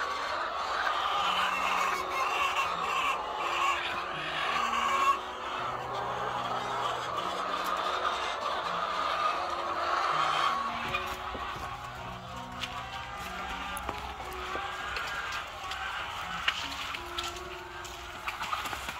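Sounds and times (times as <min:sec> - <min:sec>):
hens clucking and squawking: 0:00.0 - 0:18.9
soft background music: 0:00.0 - 0:18.9.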